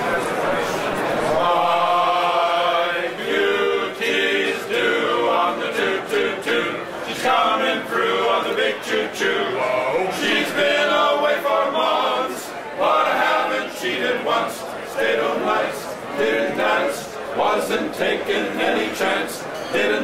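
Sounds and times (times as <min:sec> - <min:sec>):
men singing in harmony: 0:01.2 - 0:20.0.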